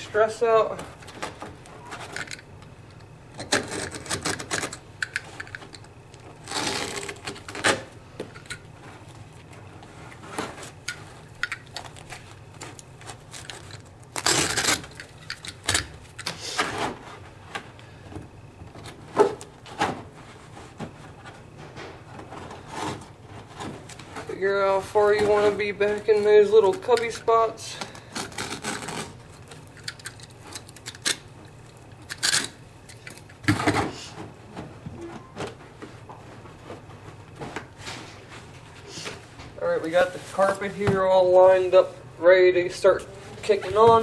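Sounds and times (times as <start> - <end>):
carpet scraping and rustling: 3.4 - 42.1.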